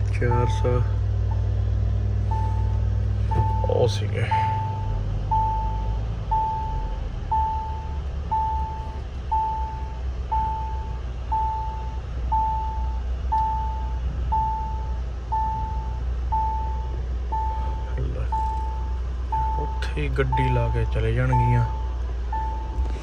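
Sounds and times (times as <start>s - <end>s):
car engine rumble: 0.0s - 23.0s
road noise: 0.0s - 23.0s
vehicle warning beeper: 0.2s - 1.5s, 2.2s - 23.0s.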